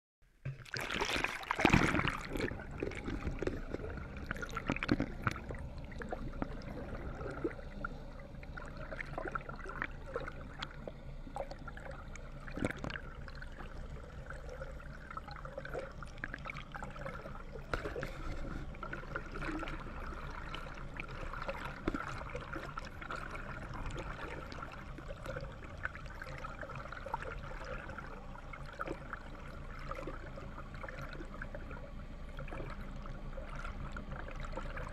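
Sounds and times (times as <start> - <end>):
underwater clicks and gurgles: 0.2 - 34.9
underwater wash: 0.3 - 34.9
water splashing and bubbling: 0.3 - 34.9.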